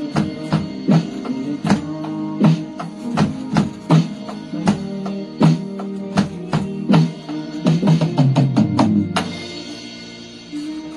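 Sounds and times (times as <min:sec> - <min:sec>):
electronic drum kit playing: 0:00.0 - 0:10.9
pop song recording: 0:00.0 - 0:10.9.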